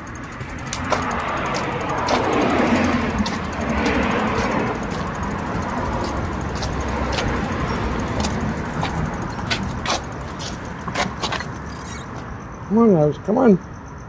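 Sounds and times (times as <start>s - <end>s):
bicycle rolling on sidewalk: 0.0s - 12.2s
sharp clicks and rattles: 0.0s - 12.4s.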